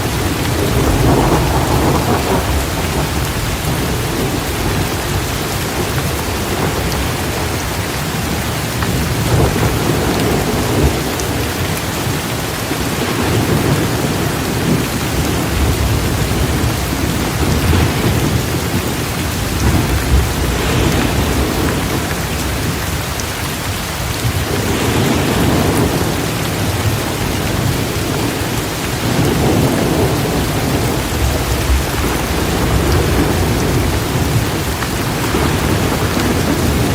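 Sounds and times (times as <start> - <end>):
rolling thunder: 0.0 - 23.2, 24.1 - 36.9
heavy rain pouring: 0.0 - 36.9.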